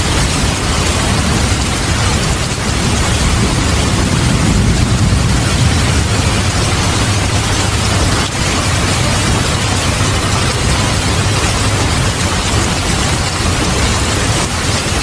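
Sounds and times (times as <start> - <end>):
heavy rain falling: 0.0 - 15.0
rolling rumble of thunder: 0.0 - 15.0.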